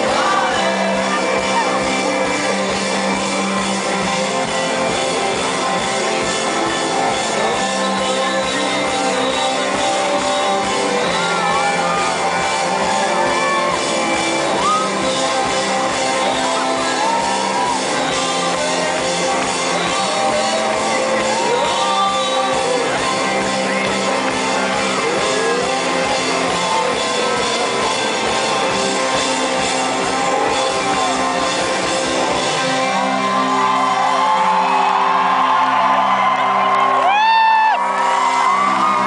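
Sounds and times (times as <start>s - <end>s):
vocalist singing: 0.0s - 33.2s
fans shouting and singing along: 0.0s - 39.0s
live rock band playing: 0.0s - 39.0s.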